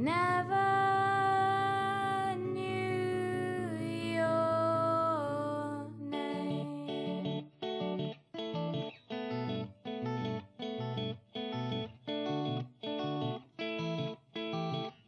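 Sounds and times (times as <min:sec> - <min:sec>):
plucked guitar notes: 0:00.0 - 0:15.0.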